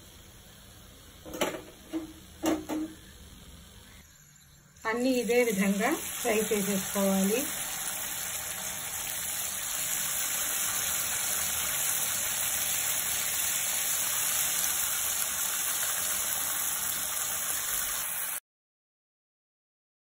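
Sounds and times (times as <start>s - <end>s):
food sizzling in hot oil: 0.0s - 4.0s, 4.8s - 18.4s.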